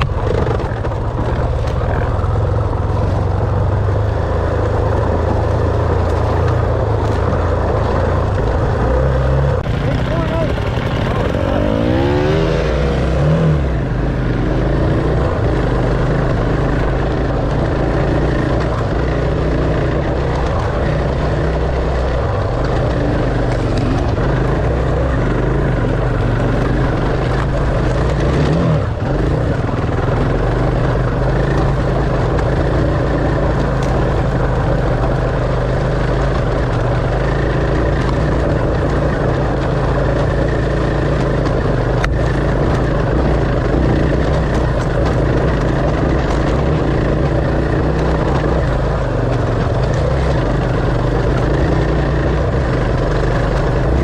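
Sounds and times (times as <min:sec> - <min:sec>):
steady engine drone: 0:00.0 - 0:54.0.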